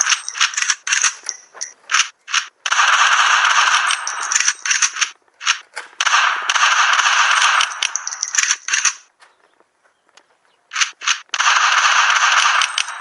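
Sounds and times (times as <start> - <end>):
rapid gunfire-like clattering: 0.0 - 1.3, 1.9 - 9.1, 10.8 - 13.0.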